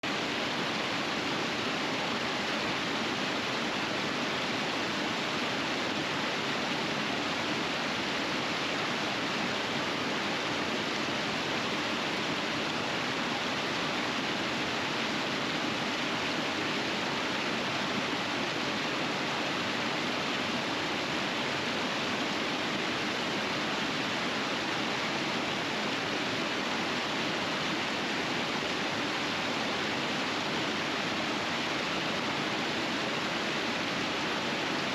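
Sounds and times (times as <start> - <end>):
river water rushing over rapids: 0.0 - 34.9.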